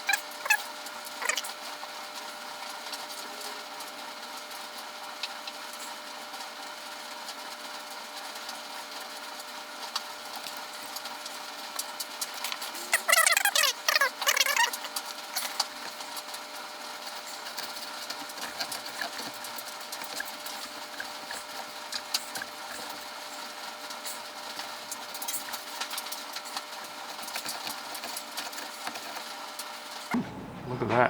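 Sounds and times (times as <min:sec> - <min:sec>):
hot iron melting plastic: 0:00.1 - 0:31.0.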